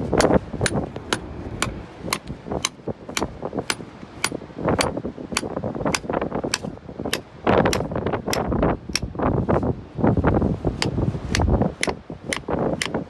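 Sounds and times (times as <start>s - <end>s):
hammer striking steel chisel on rock: 0.1s - 9.1s, 10.8s - 13.0s.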